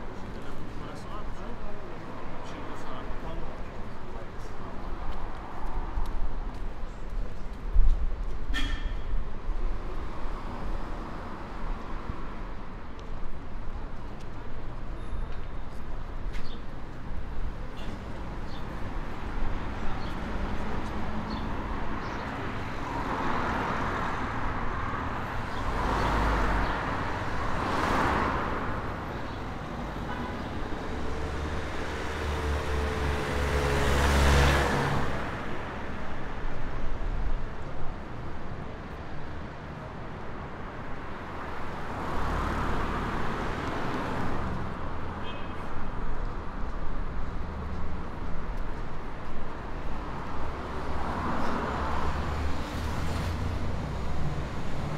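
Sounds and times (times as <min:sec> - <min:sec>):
cars passing: 0:00.0 - 0:54.9.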